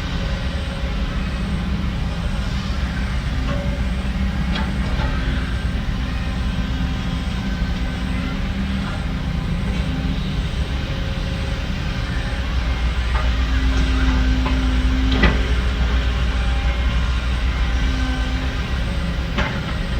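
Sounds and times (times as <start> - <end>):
heavy machinery diesel engine rumbling: 0.0 - 19.9.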